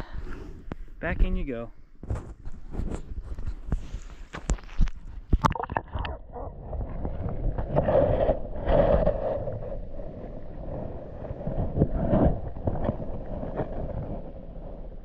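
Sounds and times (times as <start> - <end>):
muffled underwater rumble and sloshing: 2.3 - 15.0.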